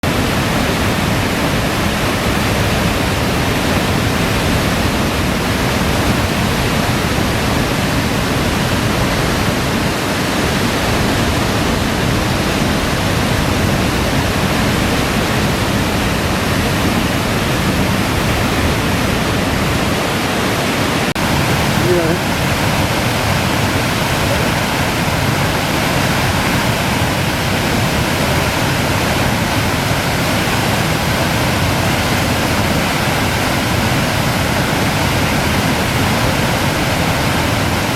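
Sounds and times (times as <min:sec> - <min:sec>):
waterfall roaring: 0:00.0 - 0:37.9.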